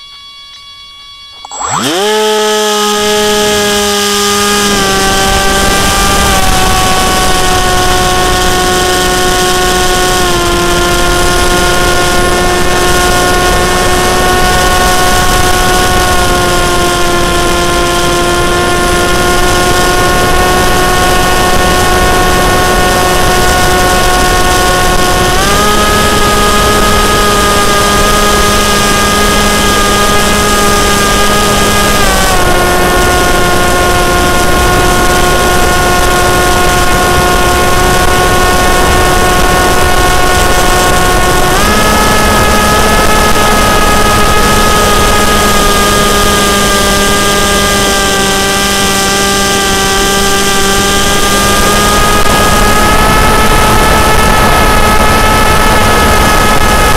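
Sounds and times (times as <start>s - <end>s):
model aircraft motor whine: 0.0s - 56.9s.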